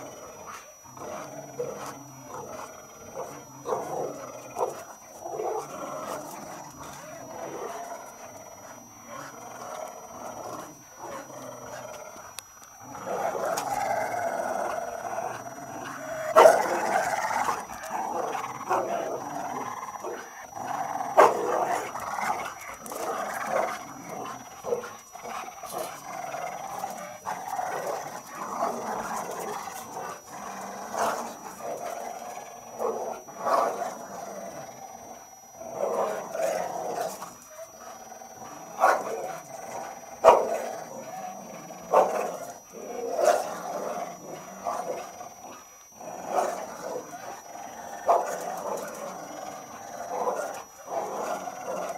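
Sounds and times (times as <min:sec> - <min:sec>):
dogs play-growling: 0:00.0 - 0:51.9.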